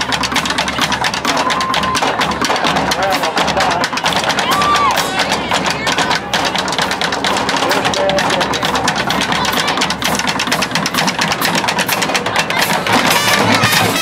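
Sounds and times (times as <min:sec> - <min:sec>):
snare drum strokes: 0:00.0 - 0:14.0.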